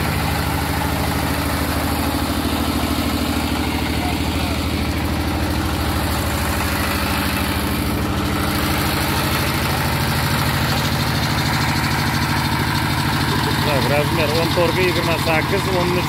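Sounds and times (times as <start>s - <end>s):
diesel engine running rhythmically: 0.0s - 16.0s.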